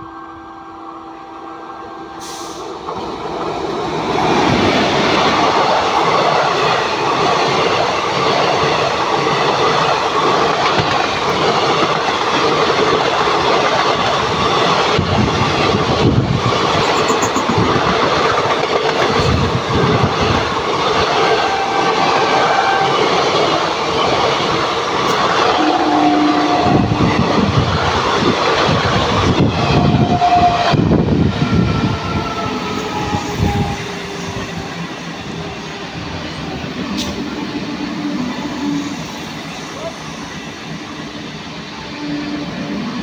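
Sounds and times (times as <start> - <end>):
passenger train rumbling past: 0.0 - 43.0.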